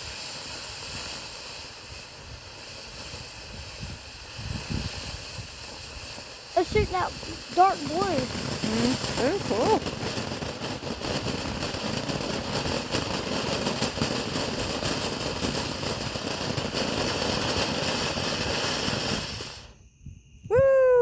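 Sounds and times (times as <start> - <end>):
firework crackling and hissing: 0.0 - 21.0.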